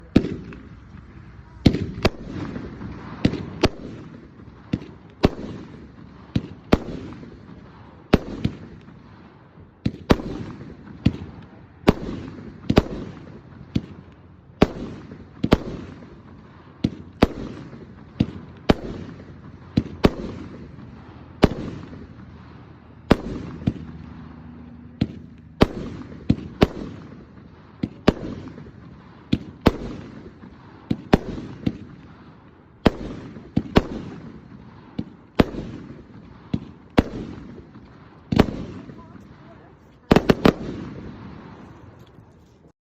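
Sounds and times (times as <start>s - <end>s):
fireworks bursting: 0.0s - 42.7s.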